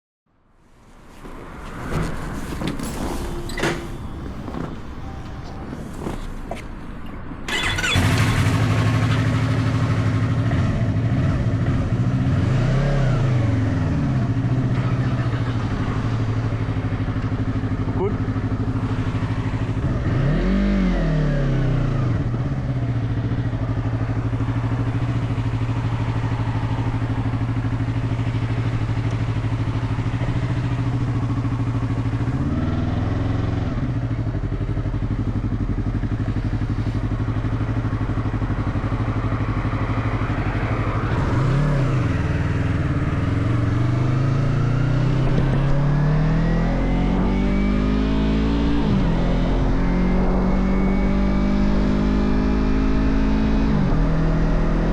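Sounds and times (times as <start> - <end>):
motorcycle engine: 1.1 - 54.9.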